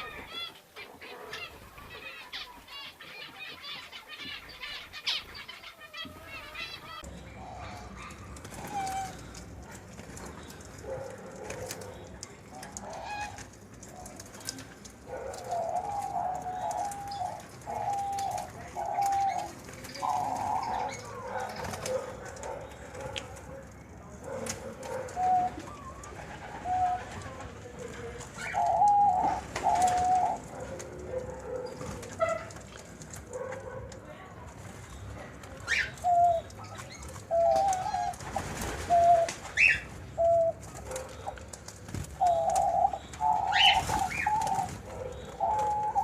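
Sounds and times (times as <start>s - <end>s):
doves cooing: 0.0s - 46.0s.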